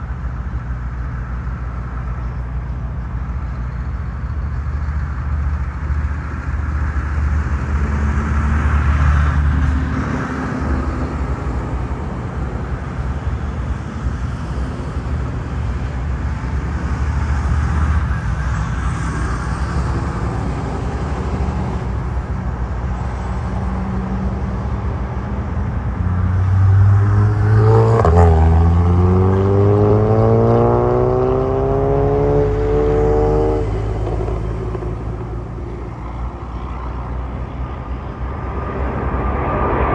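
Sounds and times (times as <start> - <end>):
jet engines rumbling: 0.0 - 30.2, 31.5 - 39.9.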